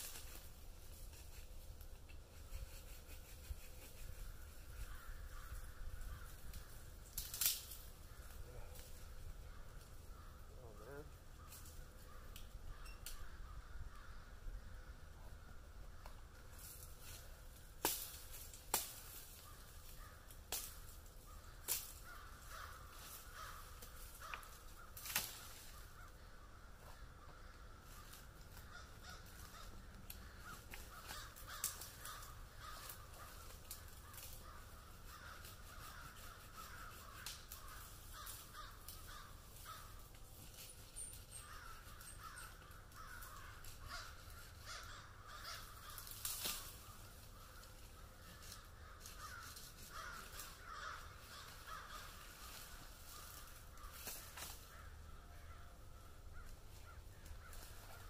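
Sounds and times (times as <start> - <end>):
crows cawing: 3.7 - 40.5, 41.2 - 58.0.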